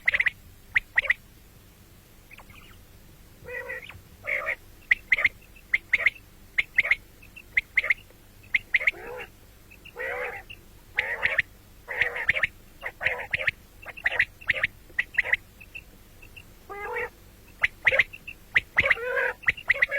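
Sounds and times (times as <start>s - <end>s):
quail calling: 0.0s - 1.2s, 2.3s - 2.8s, 3.4s - 19.9s.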